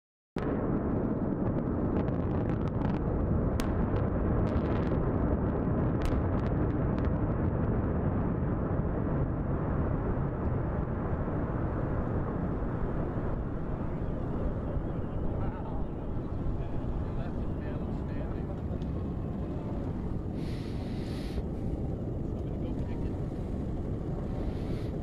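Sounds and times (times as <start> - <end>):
deep rumble of collapse: 0.4 - 25.0.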